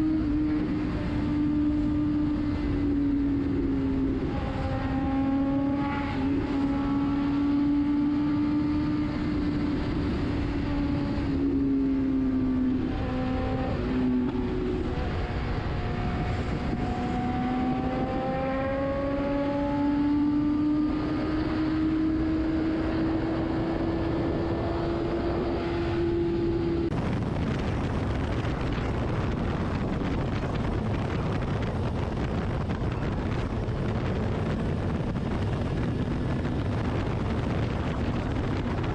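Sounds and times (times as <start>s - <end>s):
motorcycle engine accelerating: 0.0s - 38.9s
wind on microphone: 0.0s - 38.9s.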